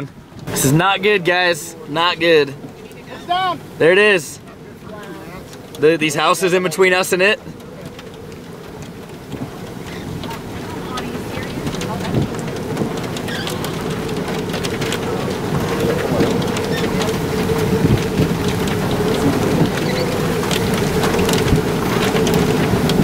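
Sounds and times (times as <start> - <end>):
heavy rain pelting a vehicle: 0.0 - 23.0.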